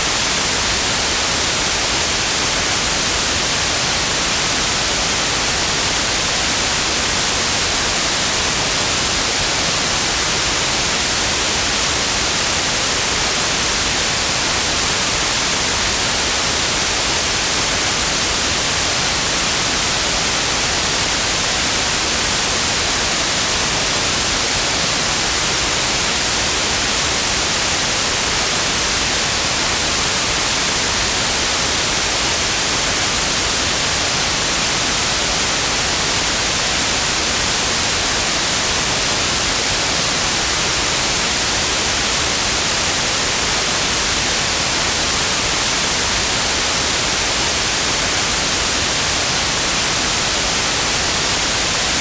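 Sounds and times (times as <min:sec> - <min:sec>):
steady white noise hiss: 0:00.0 - 0:52.0.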